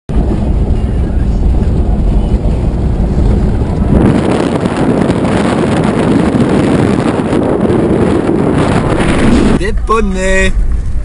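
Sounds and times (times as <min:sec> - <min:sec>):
vehicle rumble on gravel road: 0:00.1 - 0:11.0
wind buffeting microphone: 0:00.1 - 0:11.0.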